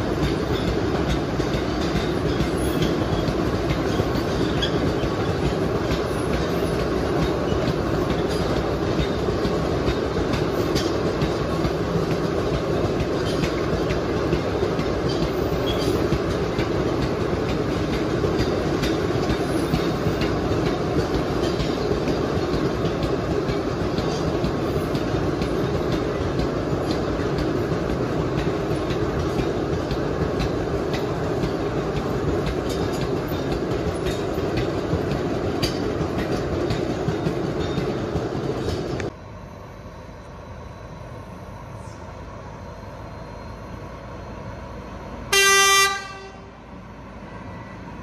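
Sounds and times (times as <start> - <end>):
steel wheels clicking over rail joints: 0.0 - 39.2
cane train rolling past: 0.0 - 48.0.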